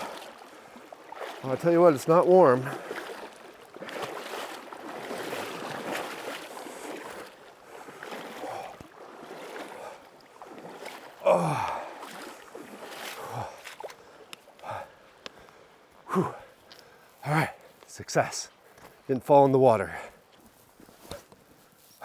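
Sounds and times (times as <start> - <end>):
creek water splashing around feet: 0.0 - 22.0.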